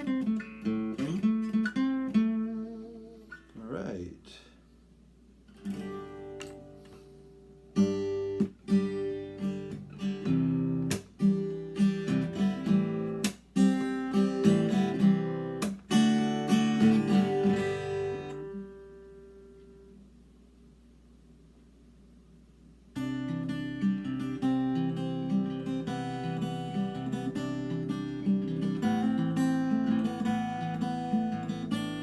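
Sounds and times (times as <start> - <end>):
acoustic guitar strummed: 0.0 - 4.0, 5.5 - 20.0, 22.9 - 32.0.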